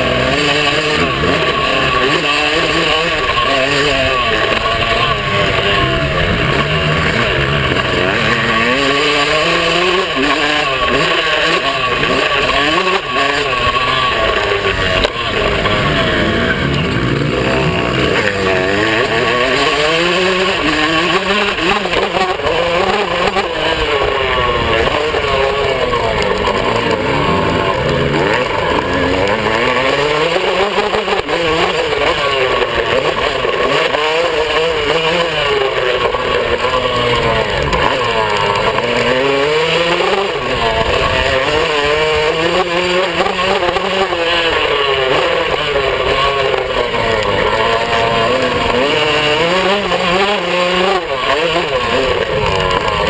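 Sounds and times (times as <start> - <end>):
two-stroke motocross engine revving: 0.0 - 53.0.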